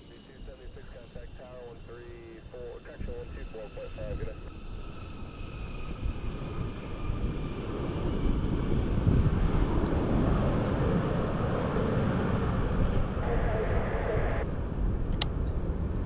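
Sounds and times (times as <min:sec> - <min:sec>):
jet aircraft rumble: 0:00.0 - 0:16.0
wind buffeting microphone: 0:00.4 - 0:16.0.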